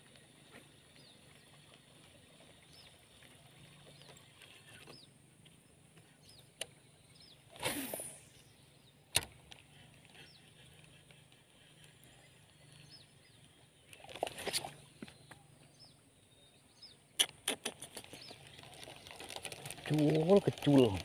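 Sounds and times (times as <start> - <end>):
birds or insects chirping: 0.0 - 21.0.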